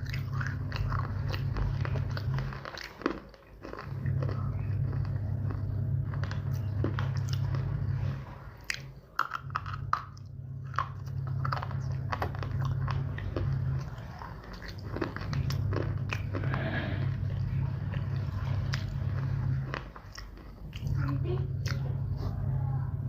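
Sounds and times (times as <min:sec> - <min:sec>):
chewing hard dry clay crunching: 0:00.0 - 0:22.4
low hum: 0:00.0 - 0:23.0.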